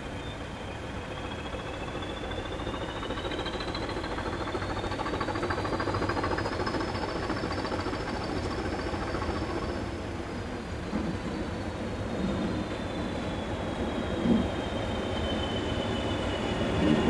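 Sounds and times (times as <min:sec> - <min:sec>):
diesel locomotive engine pulsing: 0:00.0 - 0:17.0
high rising whine: 0:00.0 - 0:17.0.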